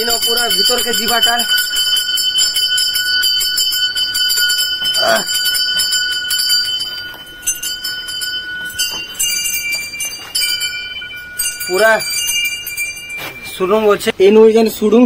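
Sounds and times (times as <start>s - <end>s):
metal bells ringing: 0.0s - 14.3s.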